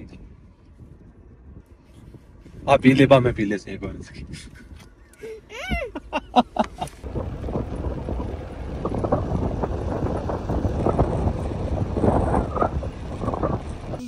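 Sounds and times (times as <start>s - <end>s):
wind buffeting microphone: 0.0s - 5.9s, 7.0s - 14.0s
car driving: 0.0s - 14.0s.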